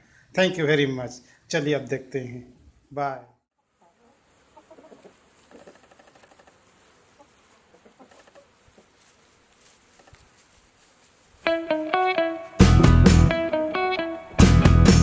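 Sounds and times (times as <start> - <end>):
low hiss: 0.0 - 12.6.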